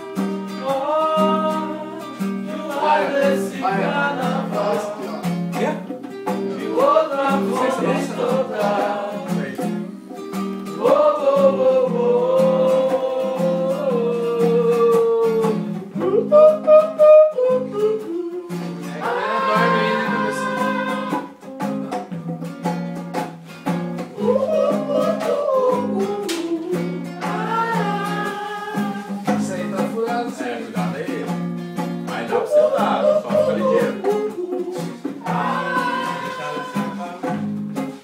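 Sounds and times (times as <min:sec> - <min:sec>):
person singing: 0:00.0 - 0:22.1, 0:24.1 - 0:31.4, 0:32.1 - 0:37.6
acoustic guitar strumming: 0:00.0 - 0:38.0.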